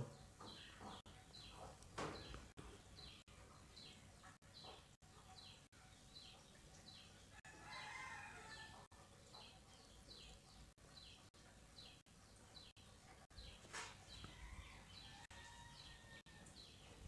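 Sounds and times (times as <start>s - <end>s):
bird chirping: 0.0s - 7.8s, 8.5s - 17.0s.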